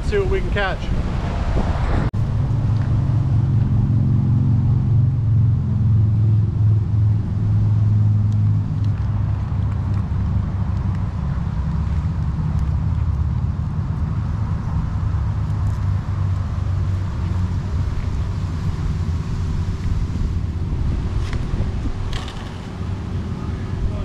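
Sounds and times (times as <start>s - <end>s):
engine running with low hum: 0.0s - 24.0s.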